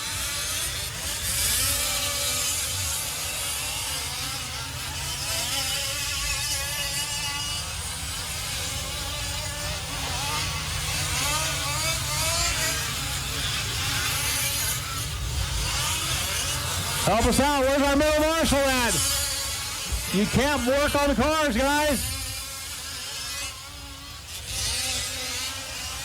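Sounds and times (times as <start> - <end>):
small two-stroke engines revving: 0.0 - 26.0.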